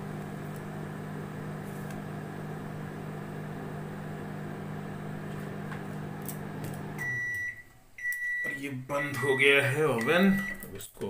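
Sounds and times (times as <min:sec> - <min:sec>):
microwave oven humming: 0:00.0 - 0:10.7.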